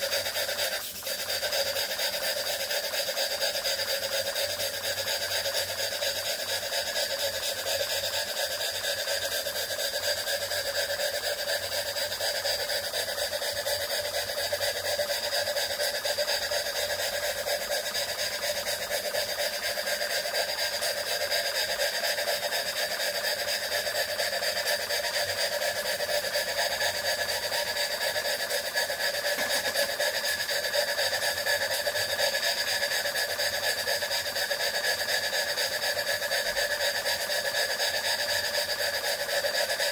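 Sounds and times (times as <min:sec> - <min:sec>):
model steam engine chuffing: 0:00.0 - 0:39.9.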